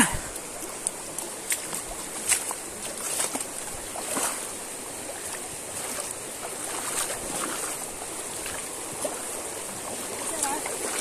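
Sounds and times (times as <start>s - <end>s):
rushing river current: 0.0s - 11.0s
splashes from wading: 0.4s - 11.0s.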